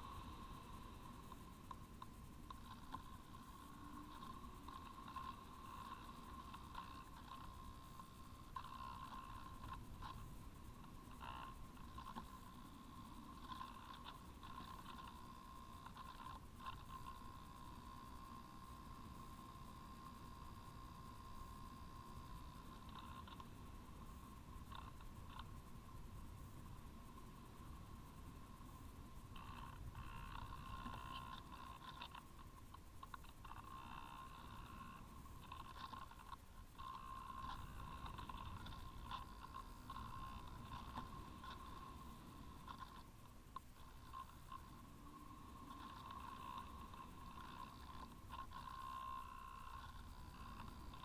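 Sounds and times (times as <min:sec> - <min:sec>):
steady thin whine: 0:00.0 - 0:51.0.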